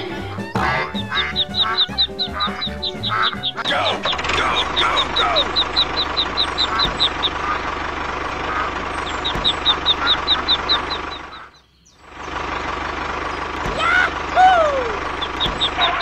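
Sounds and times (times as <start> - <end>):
ducklings peeping: 0.0 - 16.0
tractor engine running: 0.0 - 16.0.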